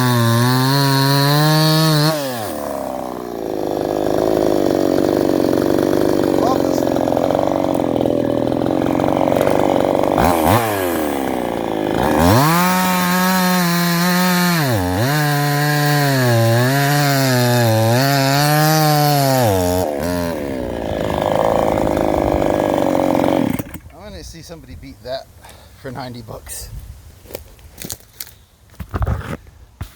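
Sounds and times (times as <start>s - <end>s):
chainsaw cutting wood: 0.0s - 24.2s.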